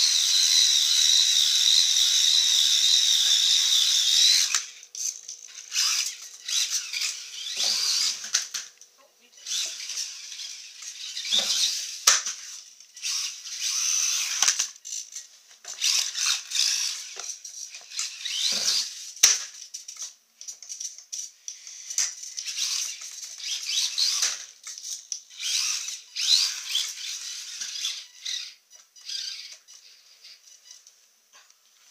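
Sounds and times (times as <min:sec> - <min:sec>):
small electric motor whining: 0:00.0 - 0:20.1, 0:21.2 - 0:30.9.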